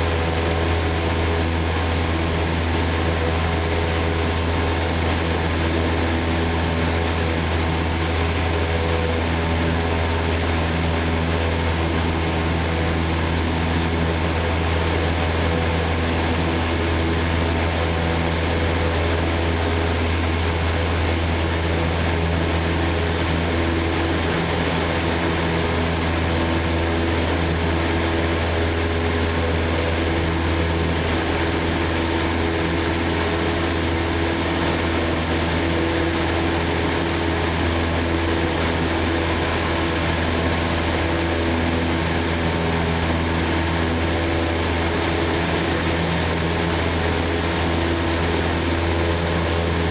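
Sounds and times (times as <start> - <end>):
light plane engine droning: 0.0 - 49.9.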